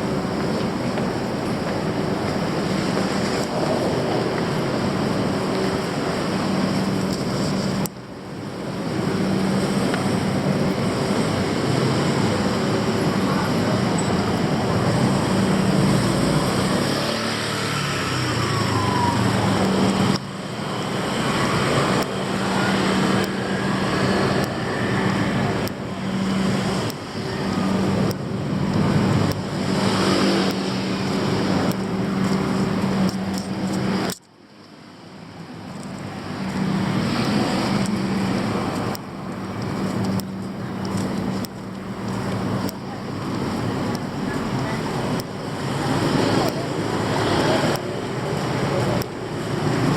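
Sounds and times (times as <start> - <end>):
street traffic noise: 0.0 - 49.9.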